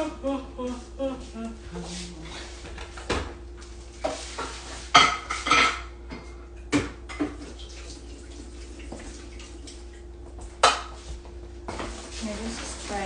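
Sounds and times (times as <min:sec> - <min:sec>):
faint hum: 0:00.0 - 0:11.7.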